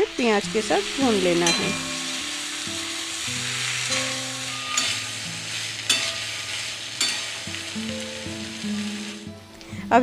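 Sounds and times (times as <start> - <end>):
potatoes and onions sizzling in oil: 0.0 - 10.0.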